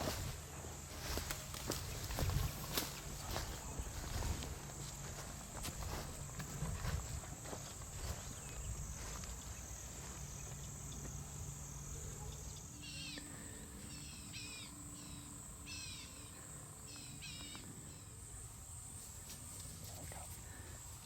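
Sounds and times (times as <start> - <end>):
night insect chorus drone: 0.0 - 21.0.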